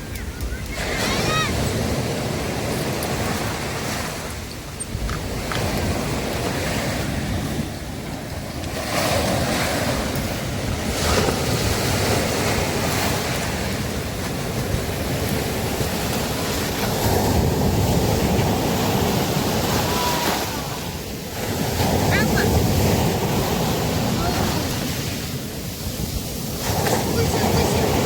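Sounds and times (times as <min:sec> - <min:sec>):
sea waves breaking on beach: 0:00.0 - 0:28.0
wind on microphone: 0:00.0 - 0:28.0.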